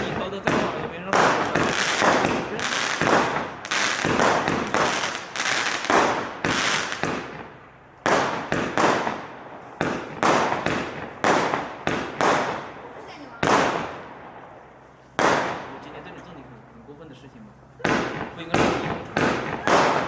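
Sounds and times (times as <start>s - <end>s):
firework bangs: 0.0s - 14.6s, 15.2s - 16.1s, 17.8s - 20.0s.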